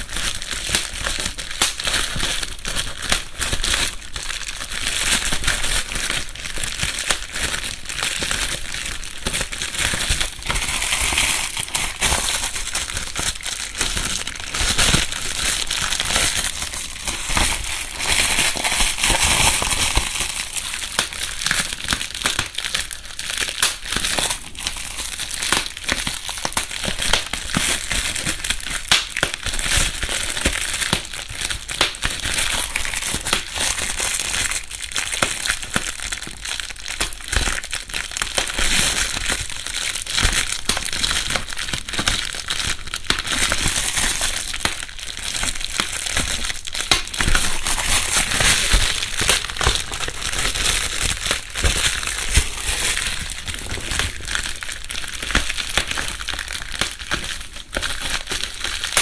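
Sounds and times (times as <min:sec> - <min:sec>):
bubble wrap rustling and popping: 0:00.0 - 0:59.0.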